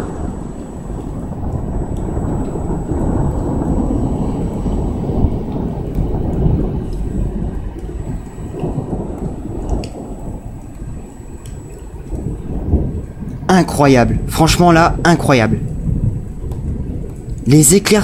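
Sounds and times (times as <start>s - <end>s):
steady rain: 0.0s - 18.0s
thunder rolling: 0.0s - 18.0s.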